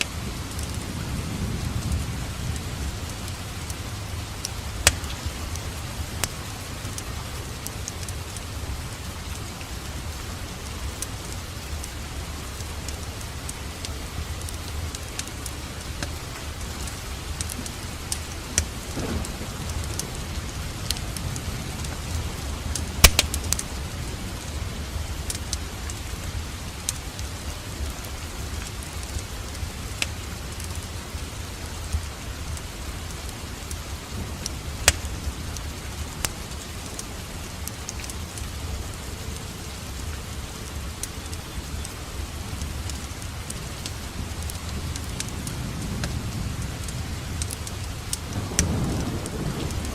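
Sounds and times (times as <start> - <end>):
steady rain: 0.0 - 49.9
wood fire crackling and popping: 0.0 - 49.9.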